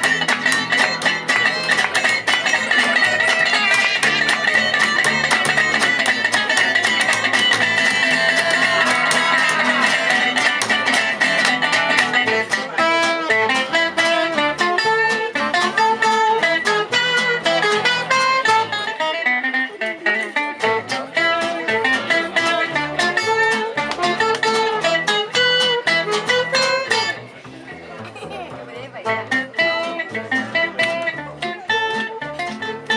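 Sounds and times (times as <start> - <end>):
bass line: 0.0 - 19.0, 20.5 - 32.9
guitars strumming: 0.0 - 32.9.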